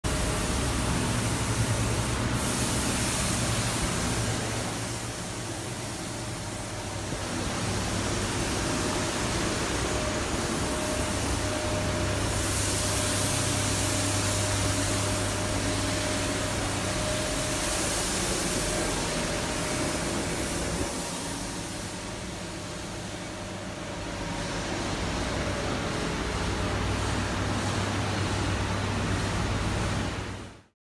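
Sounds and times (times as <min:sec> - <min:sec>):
hiss: 0:00.1 - 0:28.0.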